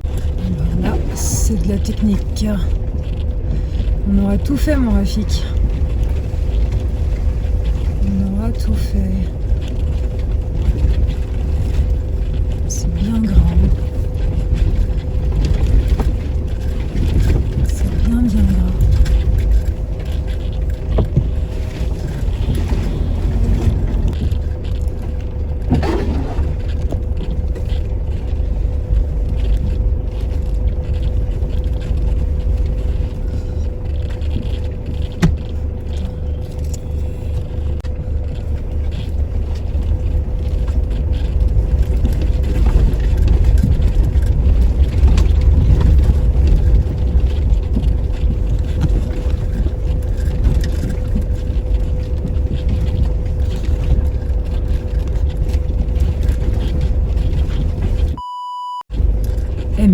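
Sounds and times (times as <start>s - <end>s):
faint constant whine: 0.0s - 58.2s, 58.9s - 59.9s
pickup truck driving slowly: 0.0s - 58.2s.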